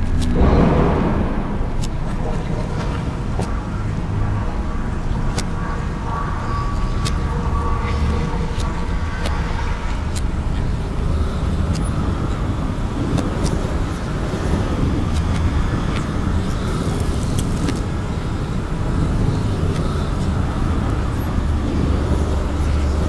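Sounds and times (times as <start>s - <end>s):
low rumbling drone: 0.0s - 23.0s.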